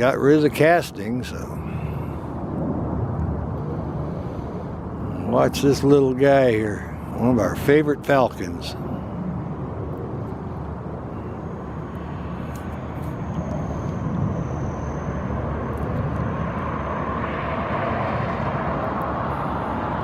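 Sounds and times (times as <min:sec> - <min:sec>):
airplane engine noise: 0:00.0 - 0:20.0.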